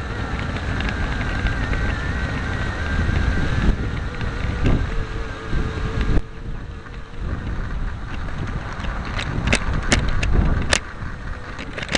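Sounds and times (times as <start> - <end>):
model rail truck rumble: 0.0 - 11.9
wheels clicking over rail joints: 0.0 - 11.9.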